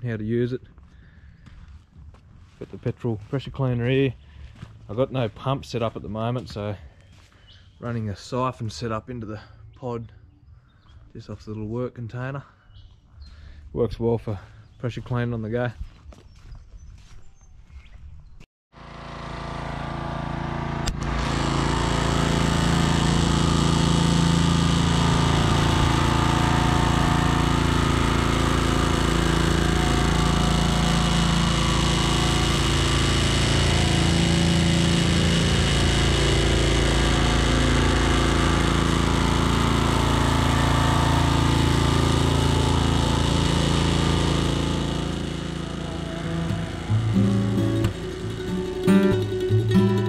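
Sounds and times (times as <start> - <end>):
small engine running: 0.7 - 9.7, 18.8 - 50.0.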